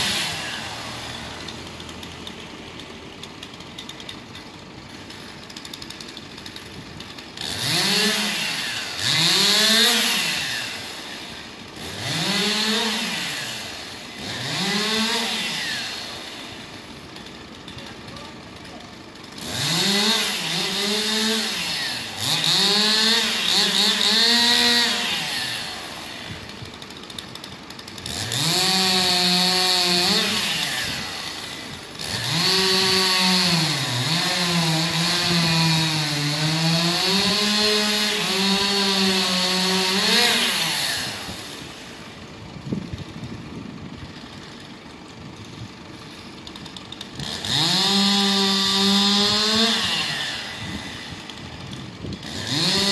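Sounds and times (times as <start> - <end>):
chainsaw revving and cutting wood: 0.0 - 52.9.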